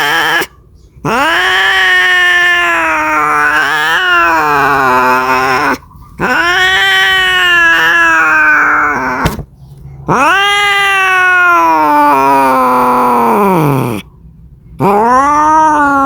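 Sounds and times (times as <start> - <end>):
cat yowling: 0.0 - 9.4, 10.1 - 14.1, 14.8 - 16.0.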